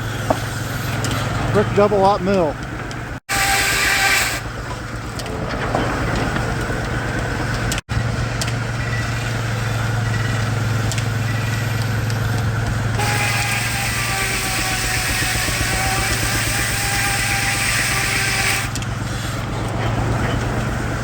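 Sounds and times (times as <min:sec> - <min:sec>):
sawmill machinery hum: 0:00.0 - 0:21.0.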